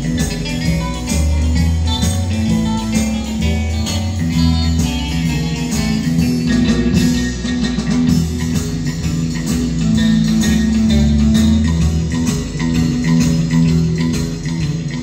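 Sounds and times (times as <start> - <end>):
guitar music with bass notes: 0.0 - 15.0.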